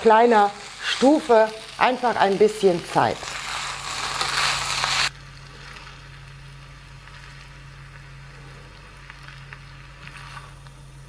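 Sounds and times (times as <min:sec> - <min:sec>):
small crackles: 0:00.0 - 0:11.0
steady low hum: 0:00.0 - 0:11.0.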